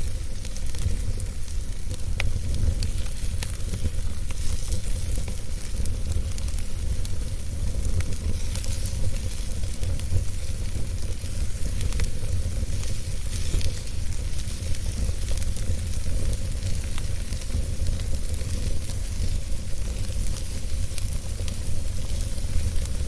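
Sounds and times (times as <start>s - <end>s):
logs crackling and popping: 0.0s - 23.0s
low rumble of flames: 0.0s - 23.0s.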